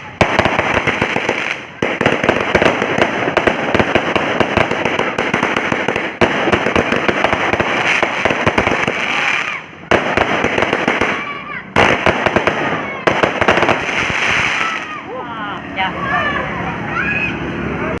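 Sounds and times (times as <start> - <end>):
firework cake shots and pops: 0.0 - 15.0.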